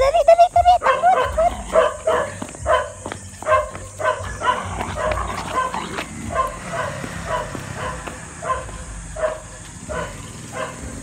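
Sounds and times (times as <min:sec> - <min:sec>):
small dogs yipping: 0:00.0 - 0:11.0.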